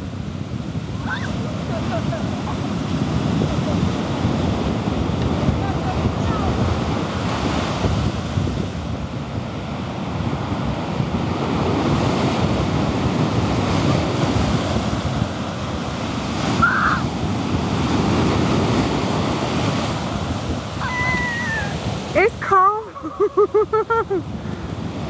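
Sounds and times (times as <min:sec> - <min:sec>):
ocean surf breaking: 0:00.0 - 0:25.0
wind on microphone: 0:00.0 - 0:25.0.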